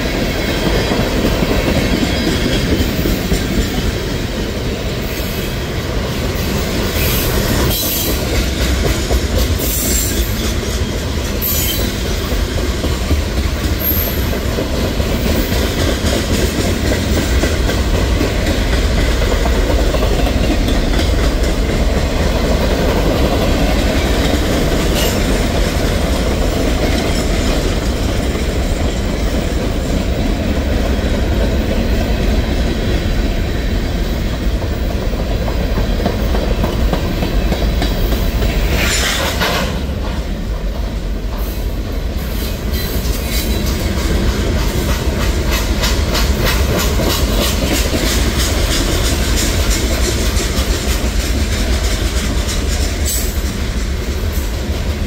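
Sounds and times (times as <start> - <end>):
train wheels clickety-clack: 0.0 - 55.0
train wheels rumbling on rail: 0.0 - 55.0.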